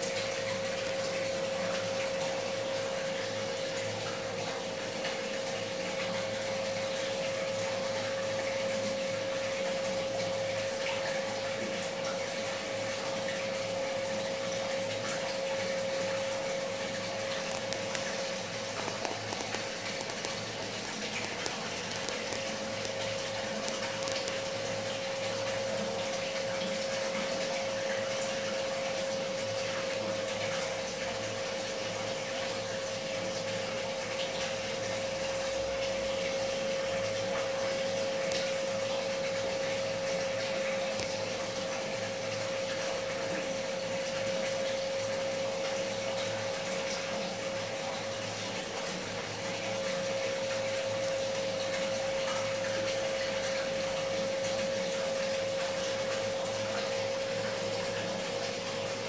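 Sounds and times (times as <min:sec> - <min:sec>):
aquarium pump humming: 0:00.0 - 0:59.0.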